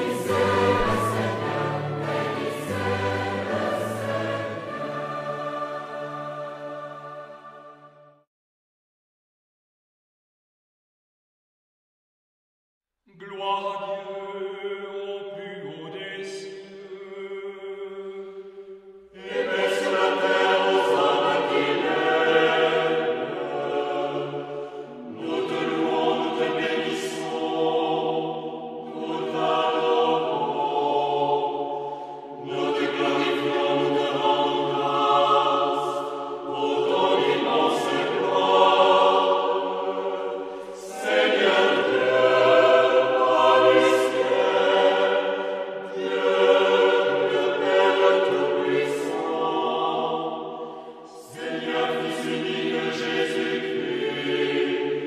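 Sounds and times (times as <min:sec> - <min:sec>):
group singing a hymn: 0:00.0 - 0:08.0, 0:13.4 - 0:55.0.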